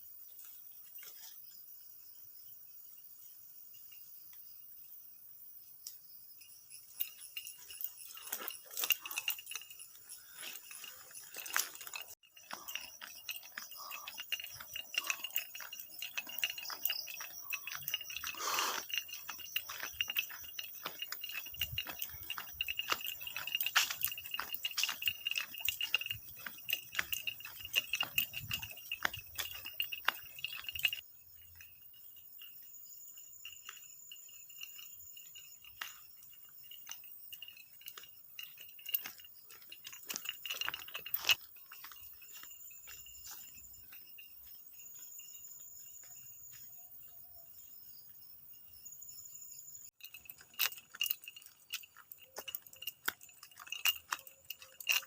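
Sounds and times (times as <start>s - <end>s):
small clinks and knocks: 0.0s - 4.9s, 5.7s - 55.0s
insect chirring: 0.0s - 55.0s.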